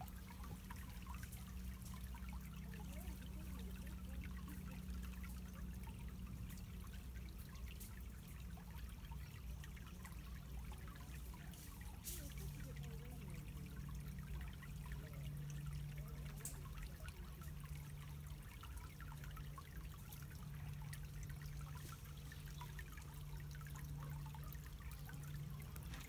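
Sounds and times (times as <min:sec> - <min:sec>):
stream trickling over gravel: 0:00.0 - 0:26.0.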